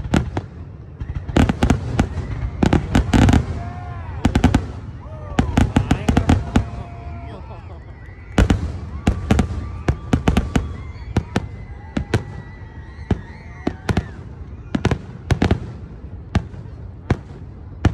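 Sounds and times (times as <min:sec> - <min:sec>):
fireworks bursting: 0:00.0 - 0:17.9.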